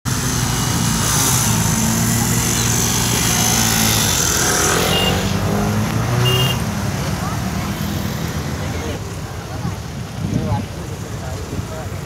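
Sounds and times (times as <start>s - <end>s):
motorcycle engines idling: 0.1s - 12.0s.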